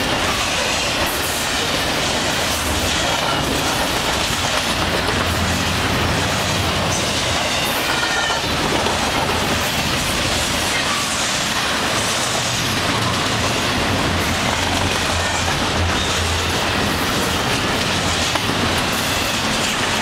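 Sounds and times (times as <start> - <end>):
steel wheels running on rails: 0.0 - 20.0.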